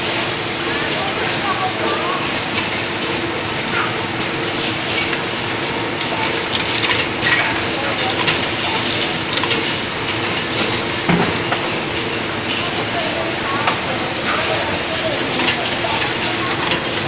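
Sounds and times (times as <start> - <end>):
conveyor clattering clicks: 0.0 - 17.0
mechanical hum: 0.0 - 17.0.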